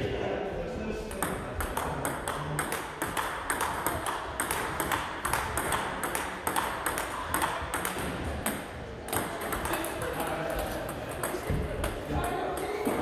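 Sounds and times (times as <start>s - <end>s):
table tennis ball clicking: 1.1s - 12.7s.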